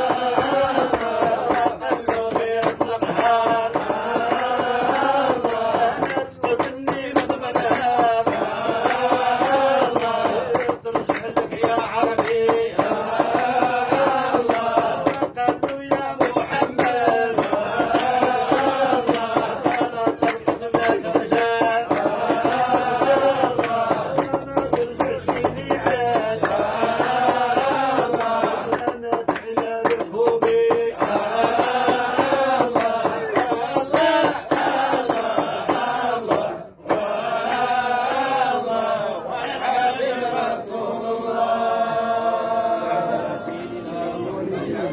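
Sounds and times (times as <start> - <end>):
sharp percussive hits: 0.0 - 42.8
men chanting: 0.0 - 44.9.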